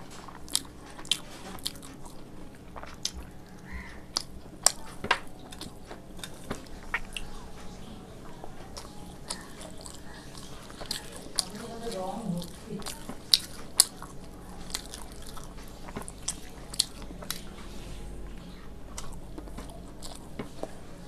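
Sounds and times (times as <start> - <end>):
person chewing with mouth clicks: 0.0 - 17.6, 18.9 - 20.8.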